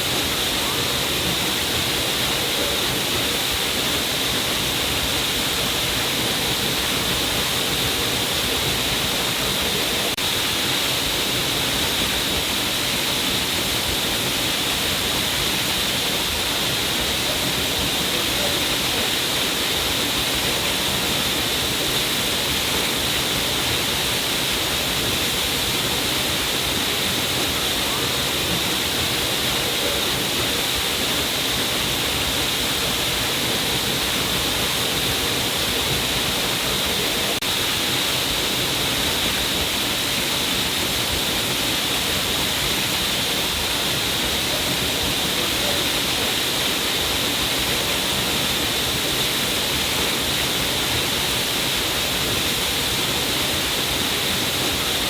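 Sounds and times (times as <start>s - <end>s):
water pouring down a cliff: 0.0s - 55.0s.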